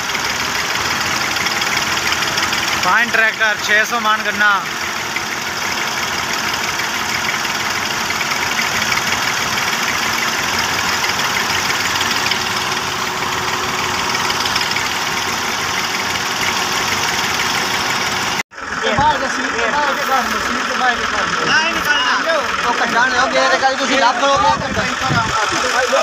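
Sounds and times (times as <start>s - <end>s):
tractor engine straining under load: 0.0s - 26.0s.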